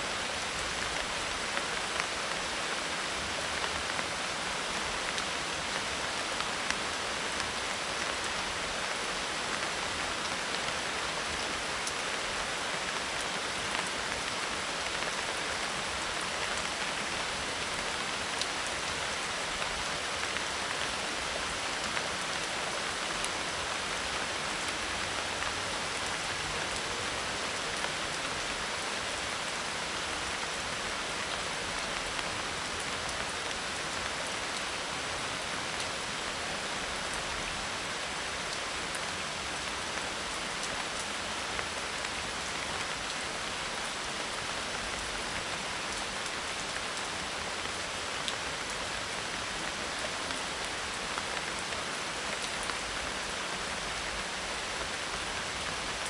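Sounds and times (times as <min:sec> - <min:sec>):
rain on a leaf roof: 0:00.0 - 0:56.0.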